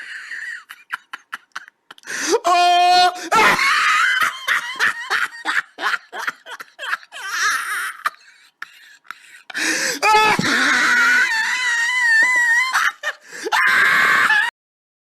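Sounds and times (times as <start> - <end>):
person laughing: 0.0 - 2.1, 3.1 - 14.5.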